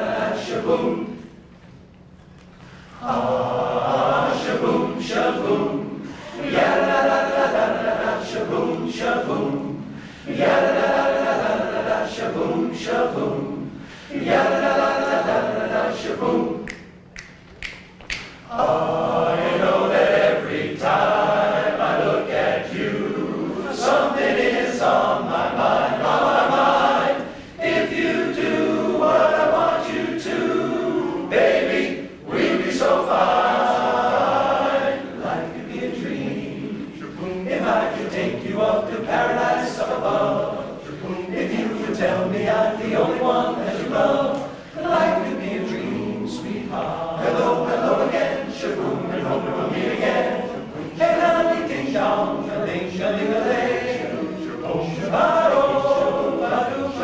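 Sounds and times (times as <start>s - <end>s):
men's chorus singing a cappella: 0.0s - 1.4s, 3.0s - 16.8s, 18.5s - 57.0s.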